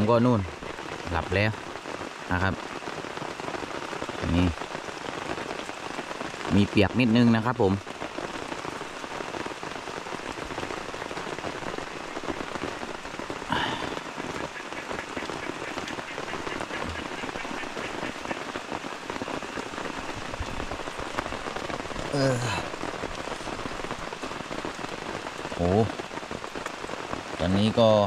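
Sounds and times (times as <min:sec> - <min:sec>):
heavy rain on a tent: 0:00.0 - 0:28.0.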